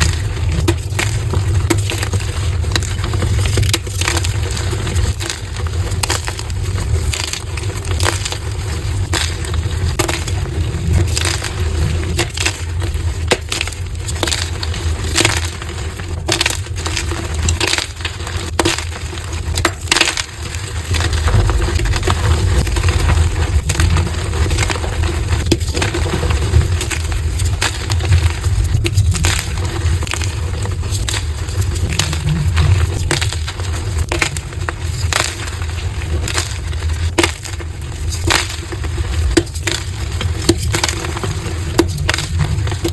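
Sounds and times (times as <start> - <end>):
chalk crunching and cracking: 0.0 - 42.9.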